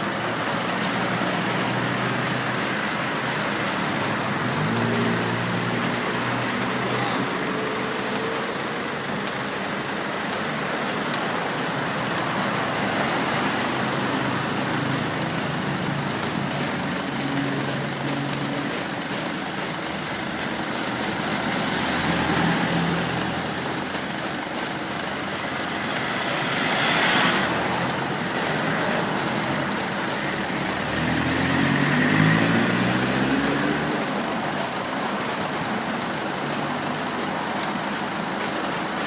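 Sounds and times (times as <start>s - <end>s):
road traffic noise: 0.0s - 39.0s.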